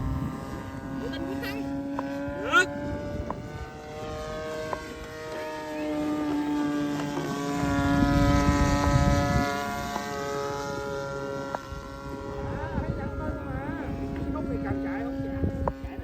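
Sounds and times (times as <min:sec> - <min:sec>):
model plane engine and propeller: 0:00.0 - 0:16.0.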